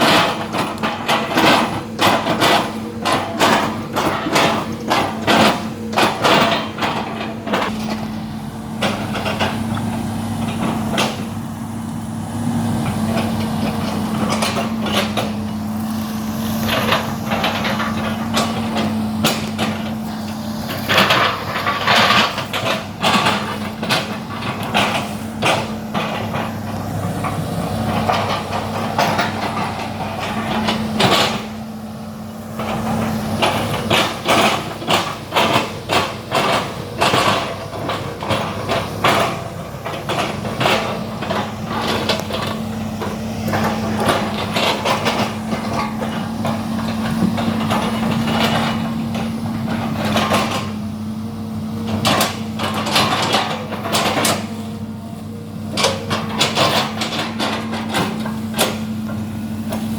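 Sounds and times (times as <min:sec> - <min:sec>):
excavator engine humming: 0:00.0 - 0:59.9.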